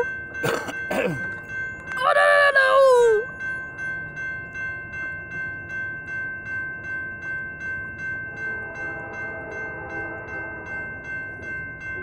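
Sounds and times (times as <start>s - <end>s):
railroad crossing bell ringing: 0.0s - 12.0s.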